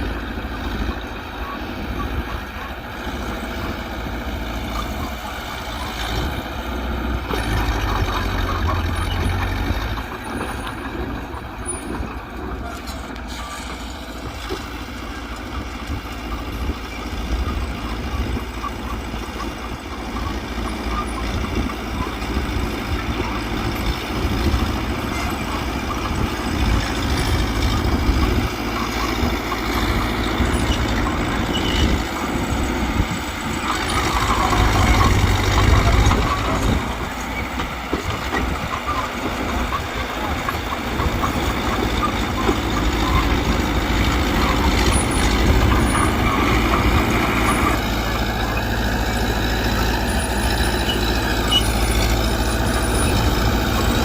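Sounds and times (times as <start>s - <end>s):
bulldozer diesel engine rumble: 0.0s - 54.0s.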